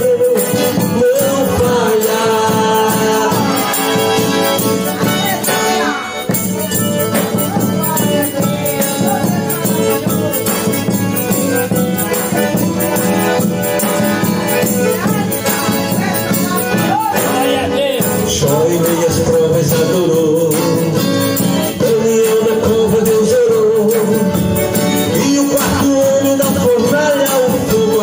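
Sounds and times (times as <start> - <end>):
live band playing gospel music: 0.0 - 28.0.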